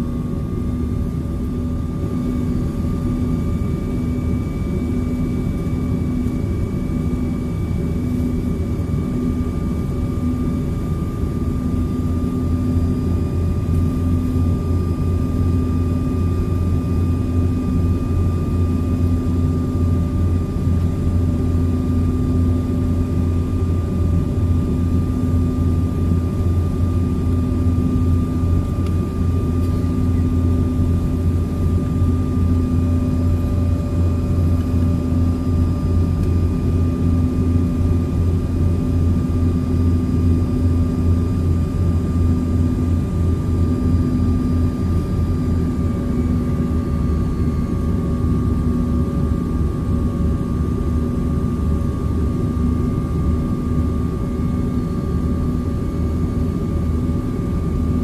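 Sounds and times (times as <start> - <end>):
constant hums: 0.0 - 58.0.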